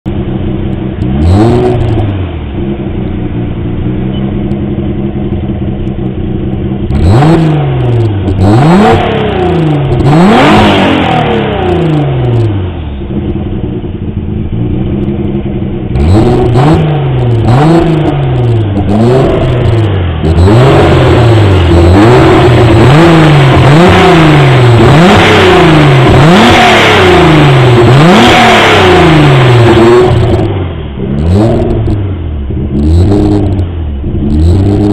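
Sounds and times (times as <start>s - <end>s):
car exhaust idling and revving: 0.0s - 34.9s.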